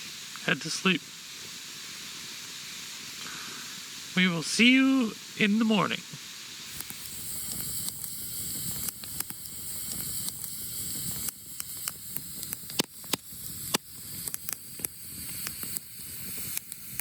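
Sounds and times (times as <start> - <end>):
sharp pops of fire: 0.0 - 4.2, 6.1 - 17.0
campfire crackling: 0.0 - 17.0
fire hissing: 0.0 - 17.0.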